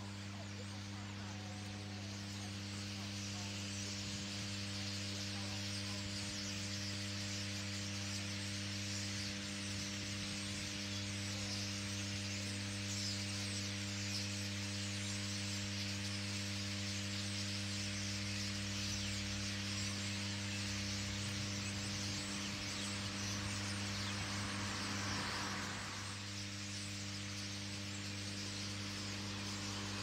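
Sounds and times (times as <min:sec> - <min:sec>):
power lines humming: 0:00.0 - 0:30.0
starling flock calling: 0:00.0 - 0:30.0.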